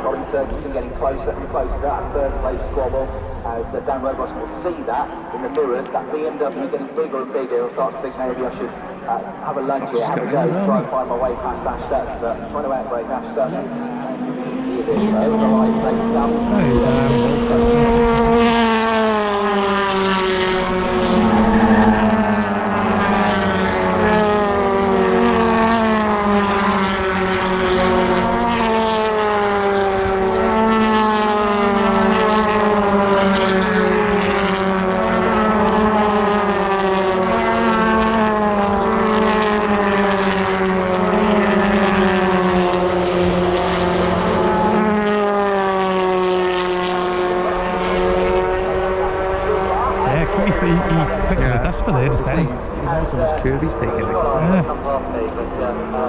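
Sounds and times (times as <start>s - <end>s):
racing car engines: 0.0s - 56.0s.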